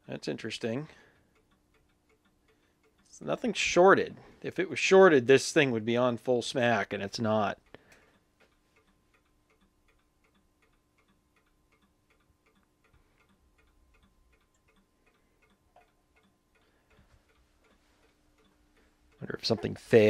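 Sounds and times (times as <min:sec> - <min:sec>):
faint regular ticking: 0:00.0 - 0:20.0
faint steady hum: 0:00.0 - 0:20.0.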